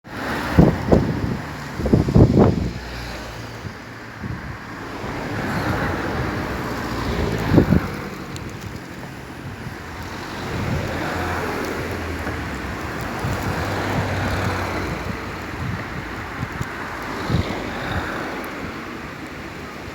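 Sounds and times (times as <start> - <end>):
river water rushing: 0.1 - 19.9
wind buffeting microphone: 0.1 - 19.9.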